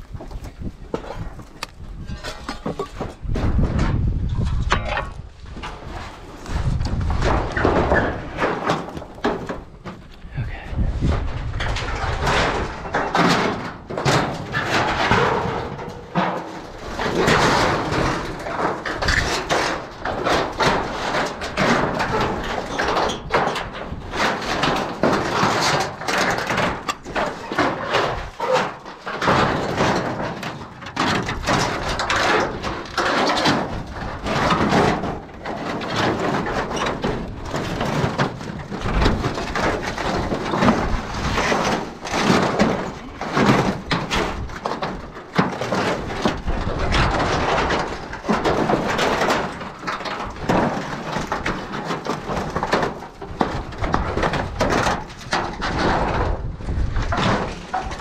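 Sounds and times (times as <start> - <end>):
boards and debris knocking: 0.0 - 58.0.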